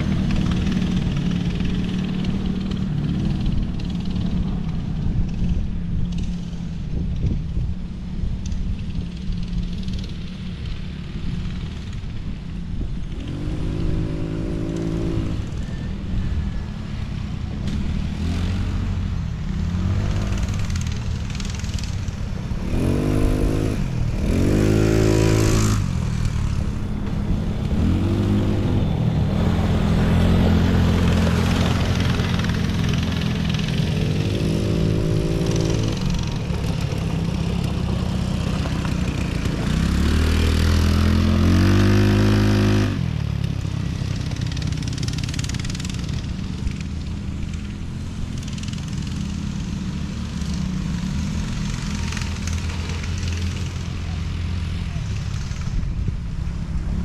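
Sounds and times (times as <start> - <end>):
small engines revving: 0.0 - 7.3, 8.5 - 57.0
low engine drone: 0.0 - 57.0.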